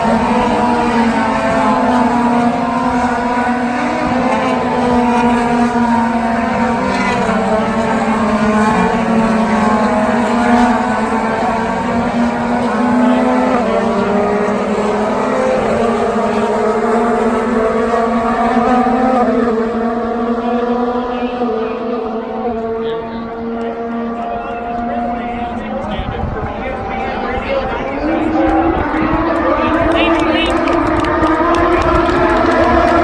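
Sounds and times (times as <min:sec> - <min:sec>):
racing car engines: 0:00.0 - 0:33.0.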